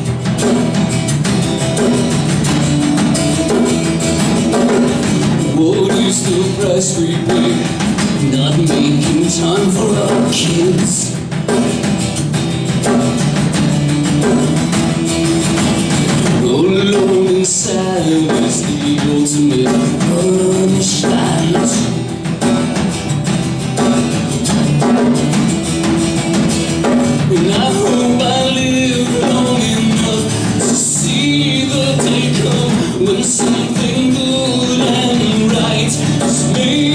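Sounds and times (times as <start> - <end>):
acoustic guitar music: 0.0 - 36.9.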